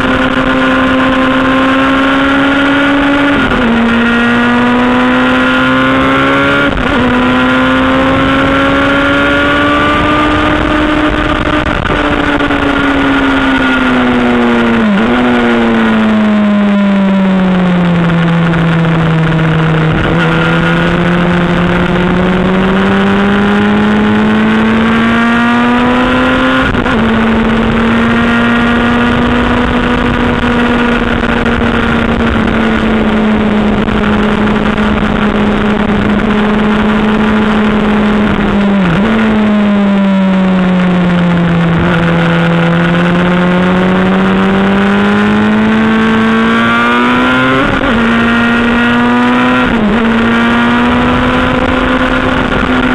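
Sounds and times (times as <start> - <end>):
motorcycle engine running hard: 0.0 - 52.9.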